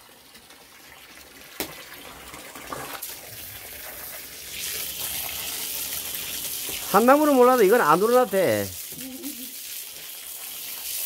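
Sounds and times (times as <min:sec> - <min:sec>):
hose water splashing into basin: 0:00.0 - 0:11.0.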